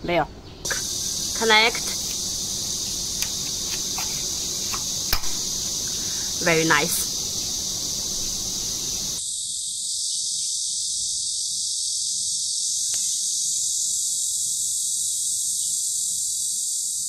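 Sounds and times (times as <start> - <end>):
steady high-pitched hiss: 0.1 - 17.0.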